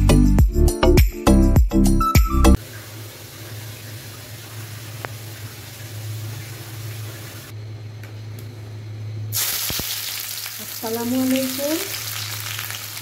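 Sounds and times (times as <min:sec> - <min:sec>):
gas burner hiss and hum: 0:02.6 - 0:13.0.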